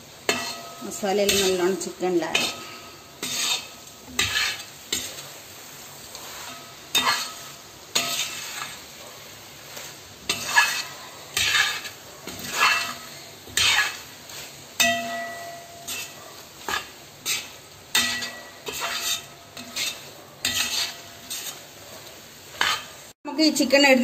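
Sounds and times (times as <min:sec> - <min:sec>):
low frying sizzle: 0:00.0 - 0:24.0
metal spoon scraping pan: 0:00.2 - 0:23.0.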